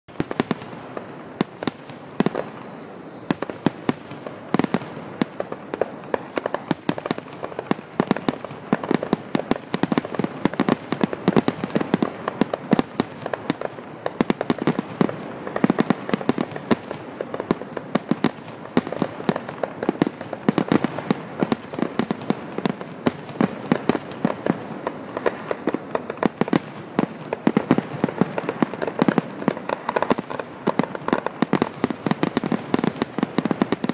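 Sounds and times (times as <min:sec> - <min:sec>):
fireworks bursting and crackling: 0:00.1 - 0:33.9.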